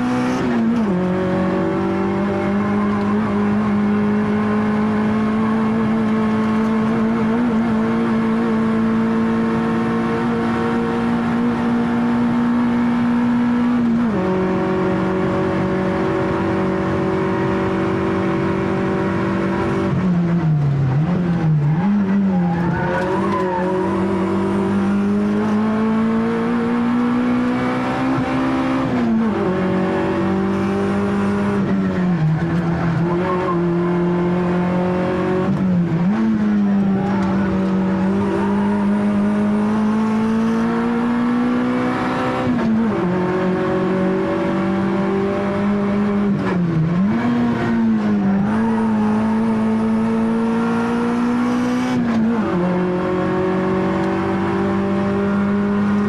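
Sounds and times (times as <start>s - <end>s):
car engine revving under load: 0.0s - 56.0s.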